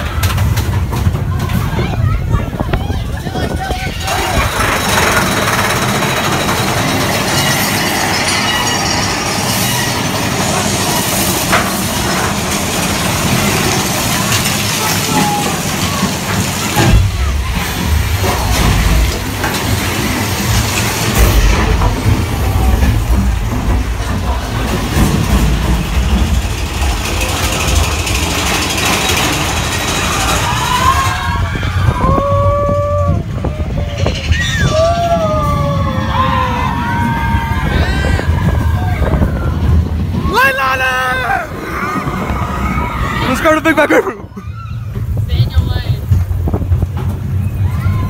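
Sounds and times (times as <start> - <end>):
roller coaster wheels rumbling: 0.0 - 48.0.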